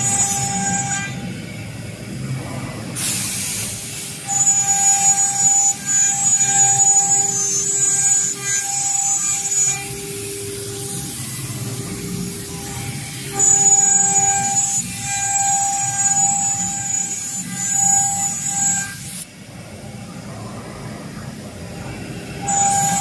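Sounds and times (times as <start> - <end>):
cnc router machine hum: 0.0 - 23.0.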